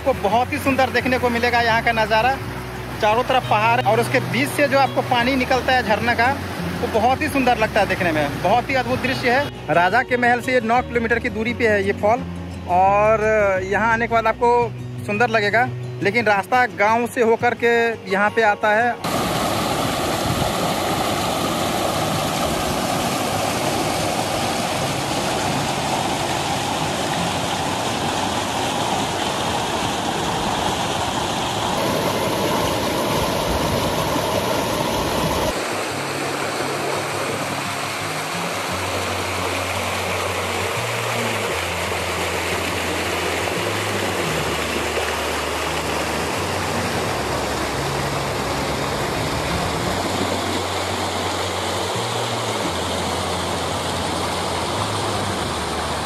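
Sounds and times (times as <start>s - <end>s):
water rushing over rocks: 0.0s - 14.6s, 18.2s - 56.0s.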